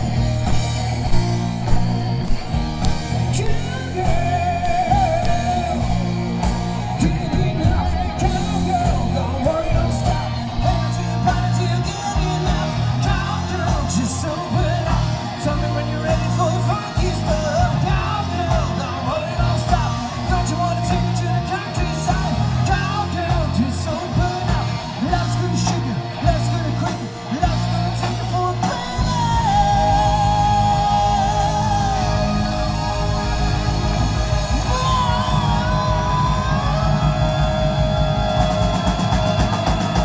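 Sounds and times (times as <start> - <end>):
electric guitar lead line: 0.0 - 40.0
hard rock band playing live: 0.0 - 40.0.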